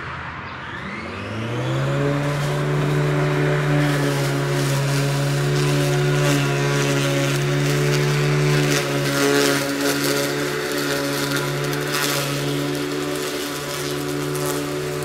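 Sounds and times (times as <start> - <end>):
electric lawn mower humming: 0.2 - 15.0
blade cutting grass hiss: 2.0 - 15.0.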